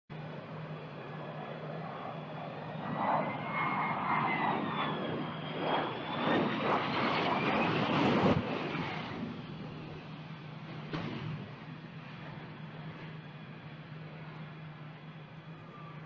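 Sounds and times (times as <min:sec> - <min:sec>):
jet engine roar with whine: 0:00.1 - 0:16.0.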